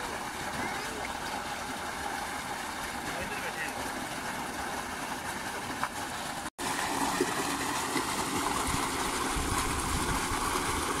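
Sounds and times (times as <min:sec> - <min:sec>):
water gushing into a tank: 0:00.0 - 0:11.0.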